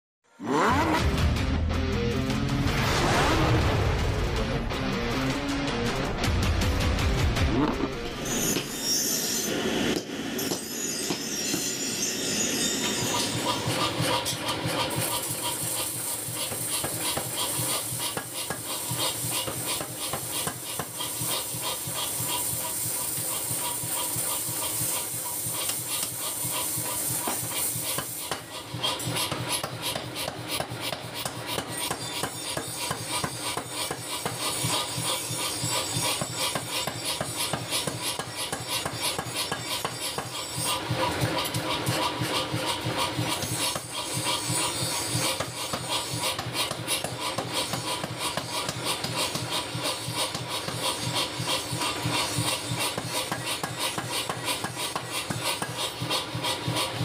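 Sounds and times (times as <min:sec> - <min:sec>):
power hammer pounding steel: 0:04.0 - 0:57.0.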